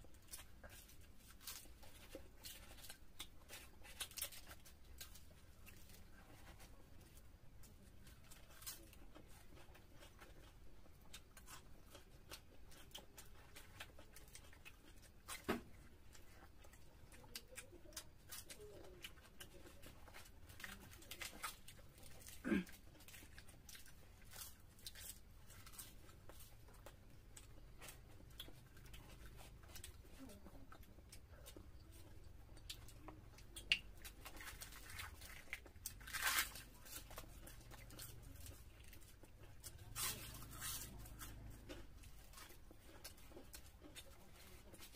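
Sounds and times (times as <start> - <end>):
fingers tearing bread: 0.0 - 44.9
mouth smacks and chewing: 0.0 - 44.9.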